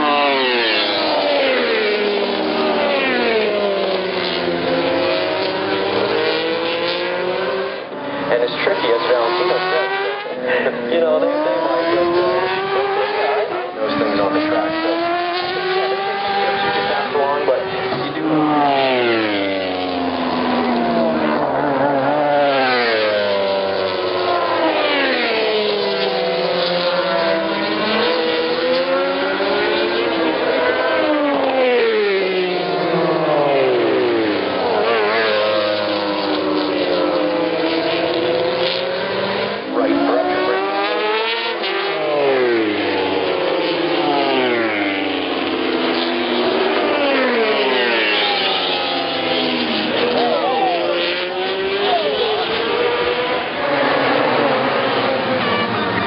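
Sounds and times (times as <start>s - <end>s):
racing motorcycle engines revving: 0.0s - 56.0s.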